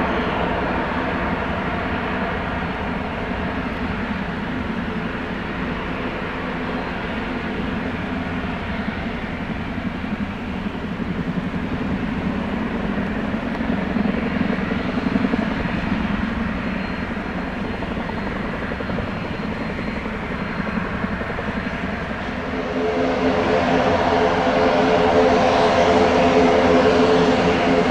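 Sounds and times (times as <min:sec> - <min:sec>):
turbine aircraft engine drone: 0:00.0 - 0:27.9.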